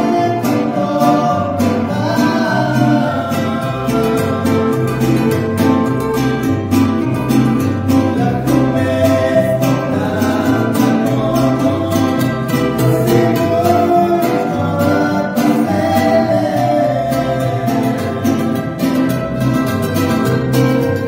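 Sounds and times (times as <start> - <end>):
man singing: 0.0 - 19.5
acoustic guitars strumming: 0.0 - 21.0.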